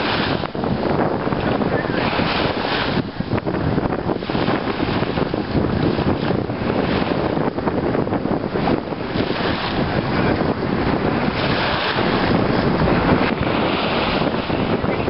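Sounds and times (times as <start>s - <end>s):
small waves washing ashore: 0.0s - 15.0s
wind buffeting microphone: 0.0s - 15.0s.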